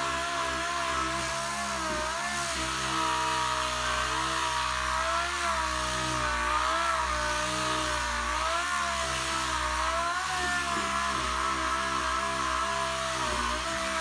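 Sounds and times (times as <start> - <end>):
air sander grinding filler: 0.0 - 14.0.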